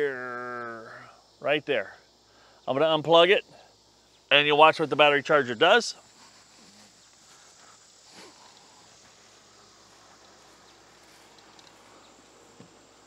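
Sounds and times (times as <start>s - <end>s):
faint insect chirring: 0.0s - 13.0s.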